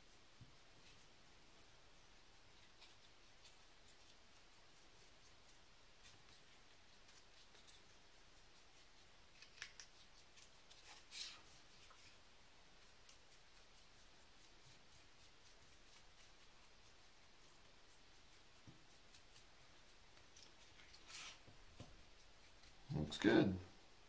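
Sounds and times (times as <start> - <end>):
paintbrush scratching on cardboard: 0.0 - 23.3.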